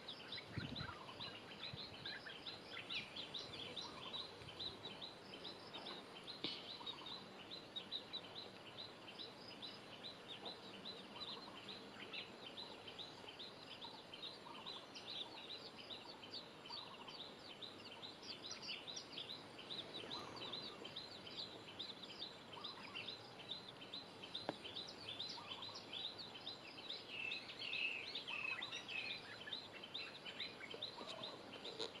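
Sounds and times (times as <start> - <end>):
outdoor background noise: 0.0 - 32.0
small birds chirping: 0.0 - 32.0.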